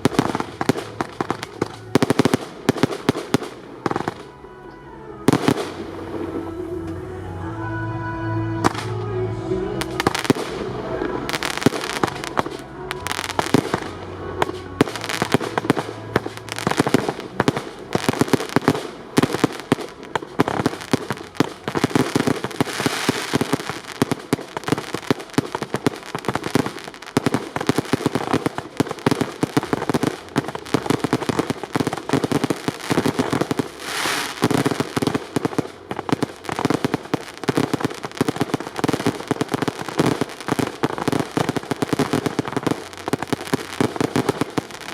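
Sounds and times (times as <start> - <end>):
fireworks bangs and crackle: 0.0 - 4.4, 5.2 - 7.0, 8.6 - 44.9.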